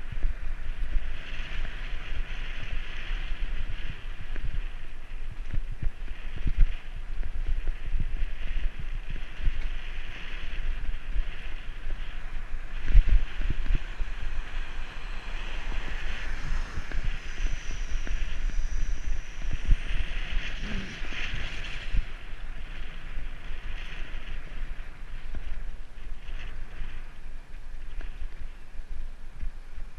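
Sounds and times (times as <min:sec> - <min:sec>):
faint high whine: 0:00.0 - 0:29.9
wind buffeting microphone: 0:00.0 - 0:29.9.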